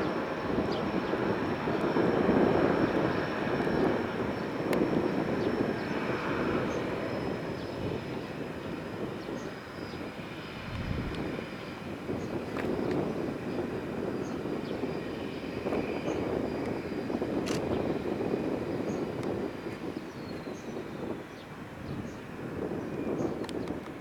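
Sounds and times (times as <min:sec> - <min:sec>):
turboprop engine running: 0:00.0 - 0:24.0.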